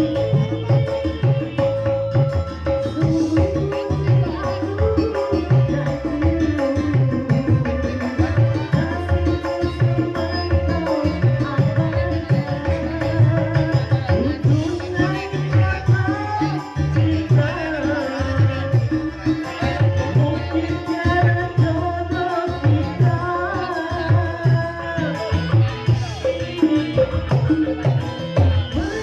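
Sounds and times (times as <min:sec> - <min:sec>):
hand drums beating: 0:00.0 - 0:29.0
wavering melodic lead: 0:00.0 - 0:29.0.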